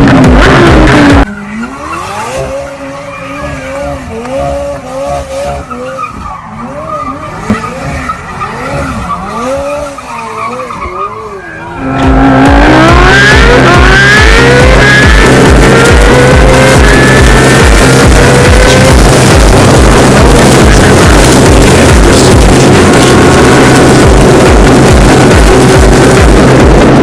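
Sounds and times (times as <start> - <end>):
racing engine revving: 0.0 - 27.0.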